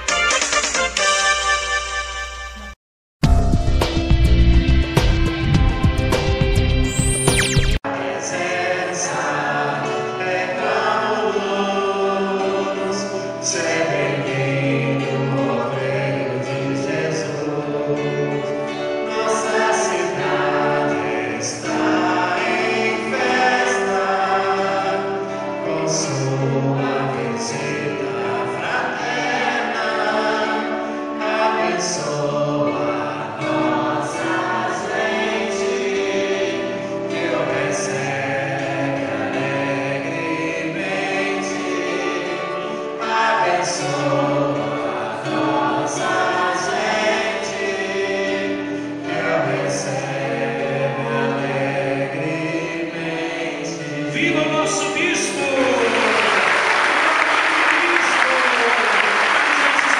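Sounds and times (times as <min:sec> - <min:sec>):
choir singing: 0:07.3 - 0:59.9.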